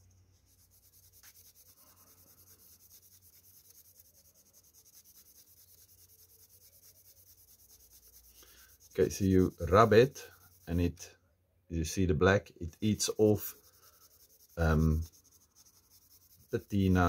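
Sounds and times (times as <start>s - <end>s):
cloth rubbing on metal blade: 0.0s - 11.0s, 12.8s - 17.0s.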